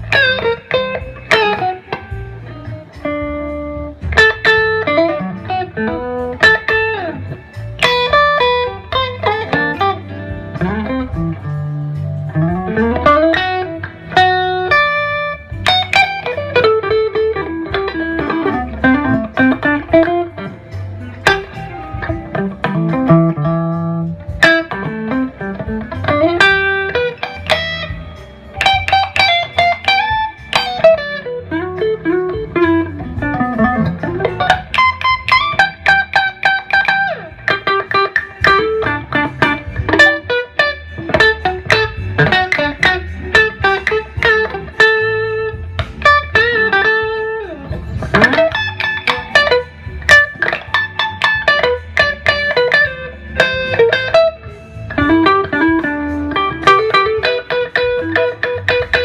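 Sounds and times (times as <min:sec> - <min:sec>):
electric guitar lead line: 0:00.0 - 0:59.0
steady low guitar notes: 0:00.0 - 0:59.0.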